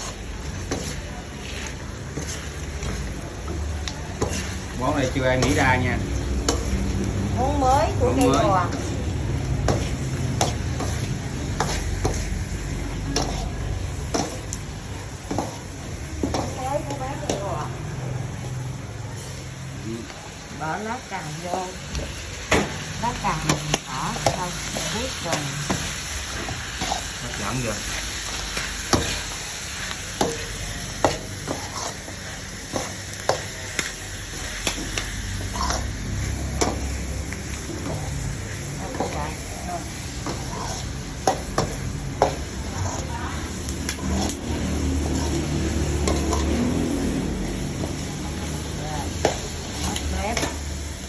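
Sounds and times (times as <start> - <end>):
squid sizzling in a pan: 0.0 - 51.0.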